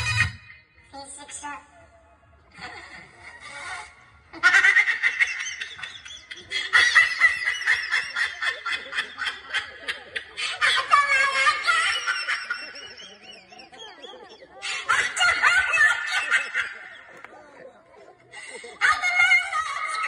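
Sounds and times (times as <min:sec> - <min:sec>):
people laughing: 0:02.4 - 0:20.0.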